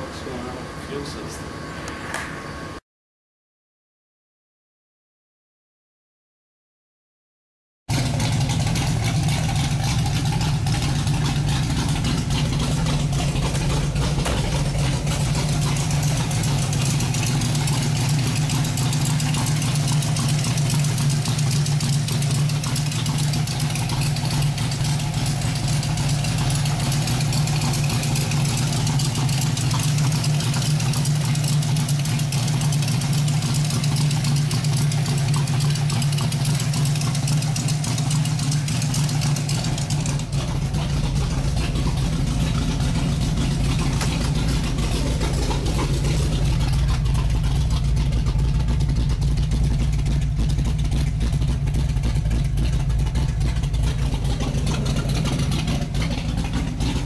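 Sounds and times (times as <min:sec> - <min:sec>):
engine idling: 0:07.9 - 0:57.0.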